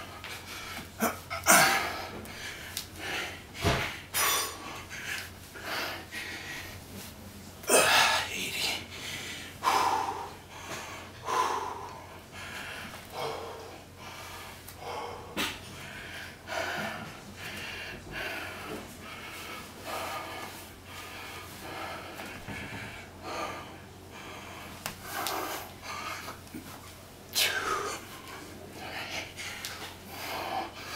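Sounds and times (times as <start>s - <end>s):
man breathing hard: 0.0s - 30.9s.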